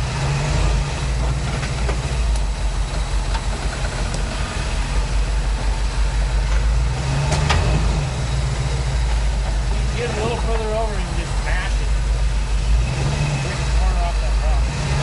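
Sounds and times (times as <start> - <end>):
vehicle engine running low: 0.0 - 15.0.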